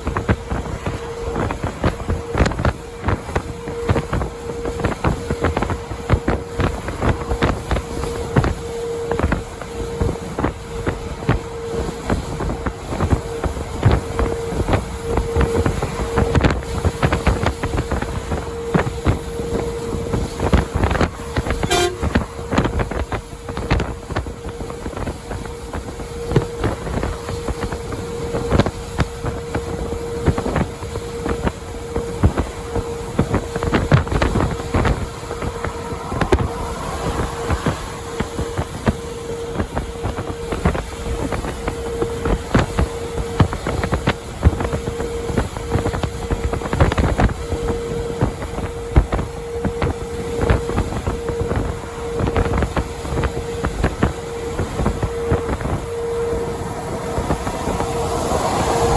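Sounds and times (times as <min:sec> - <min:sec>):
road rumble: 0:00.0 - 0:58.9
steady hum: 0:00.0 - 0:58.9
wind buffeting microphone: 0:00.0 - 0:58.9.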